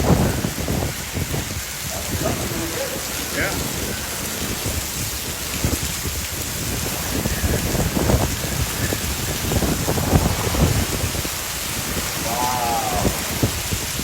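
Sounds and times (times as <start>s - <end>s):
heavy rain pouring: 0.0s - 14.0s
low rumbling: 2.4s - 14.0s.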